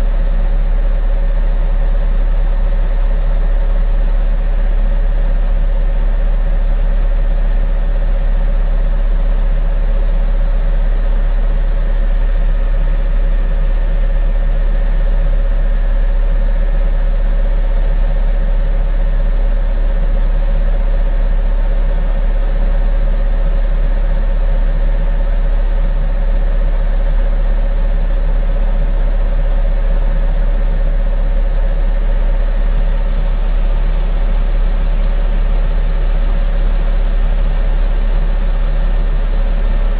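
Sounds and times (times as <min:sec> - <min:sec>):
diesel engine idling: 0:00.0 - 0:39.9
mid-pitched engine whine: 0:00.0 - 0:39.9.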